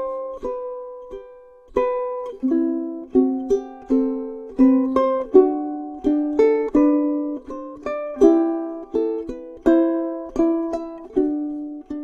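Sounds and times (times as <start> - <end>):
ukulele plucking chords: 0.0 - 12.0.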